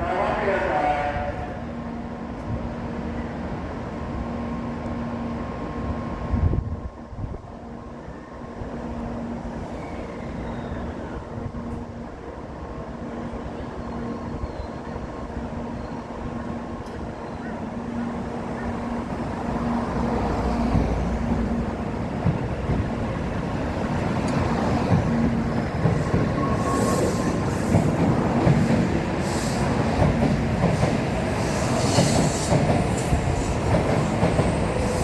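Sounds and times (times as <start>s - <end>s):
railway rumble and hum: 0.0s - 35.0s.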